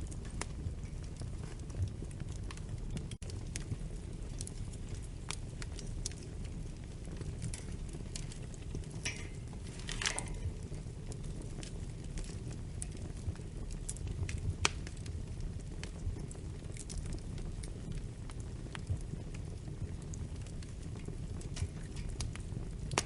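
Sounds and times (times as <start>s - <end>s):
low rumble of flames: 0.0s - 23.0s
sharp pops of fire: 0.0s - 23.0s
wood fire crackling: 0.0s - 23.0s.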